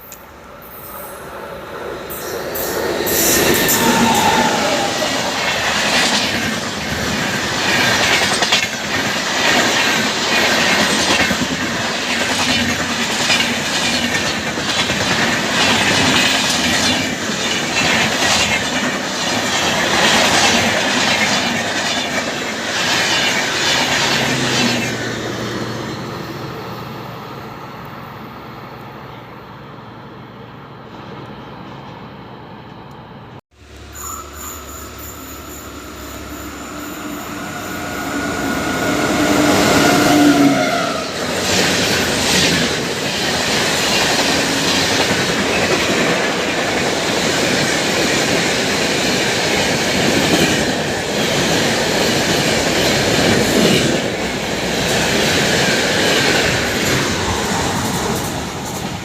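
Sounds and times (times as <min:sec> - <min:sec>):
train rushing past: 0:00.0 - 0:59.0.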